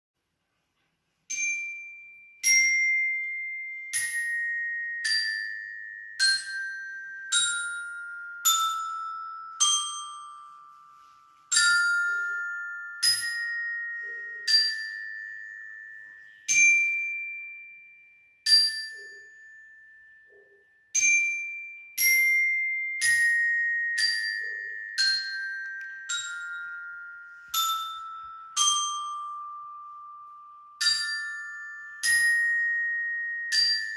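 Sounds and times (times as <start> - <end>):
glockenspiel notes: 1.3 - 33.9.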